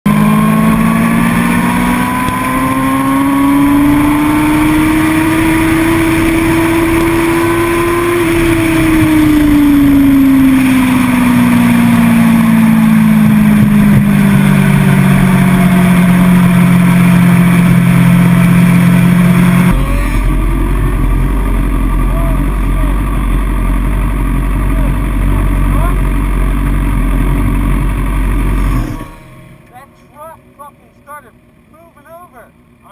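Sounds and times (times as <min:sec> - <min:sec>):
vehicle engine accelerating: 0:00.0 - 0:32.9
road and wind noise: 0:00.1 - 0:32.9.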